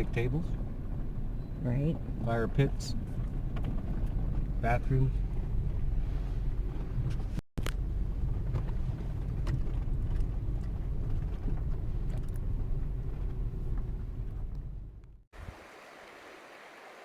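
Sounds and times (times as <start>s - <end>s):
vehicle driving rumble: 0.0s - 15.3s.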